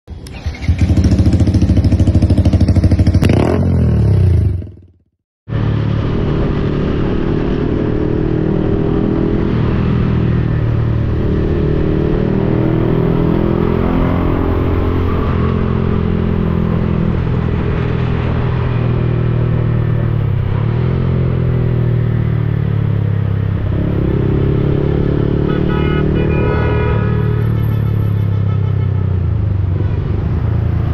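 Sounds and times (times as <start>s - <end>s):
motorcycle engine revving: 0.1s - 30.9s
motorcycle riding: 0.1s - 30.9s.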